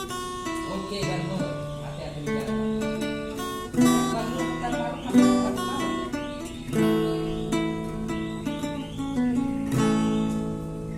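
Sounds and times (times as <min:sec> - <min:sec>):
acoustic guitar strumming and plucking: 0:00.0 - 0:10.9.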